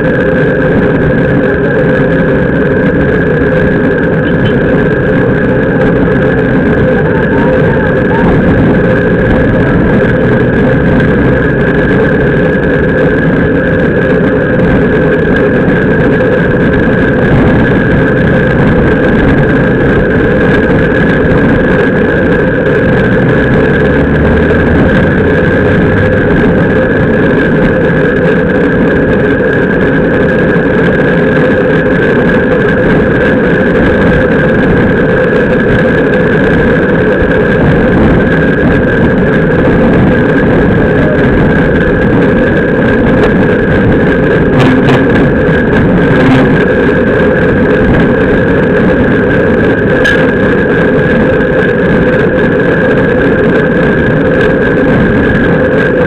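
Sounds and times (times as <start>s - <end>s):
road noise rumble: 0.0s - 56.0s
wind rush: 0.0s - 56.0s.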